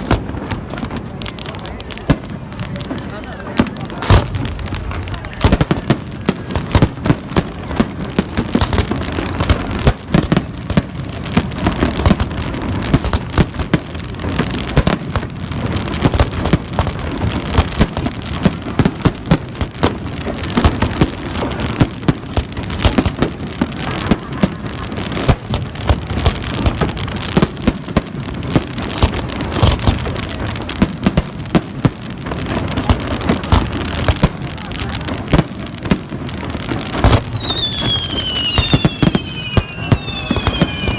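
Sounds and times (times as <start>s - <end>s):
fireworks bangs: 0.0s - 40.9s
fireworks crackling hiss: 0.0s - 40.9s.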